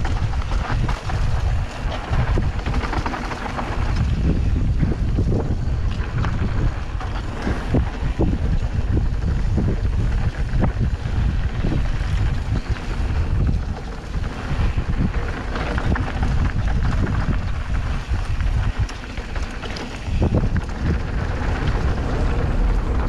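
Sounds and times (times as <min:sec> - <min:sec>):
bike rattling clicks and knocks: 0:00.0 - 0:23.0
wind buffeting microphone: 0:00.0 - 0:23.0.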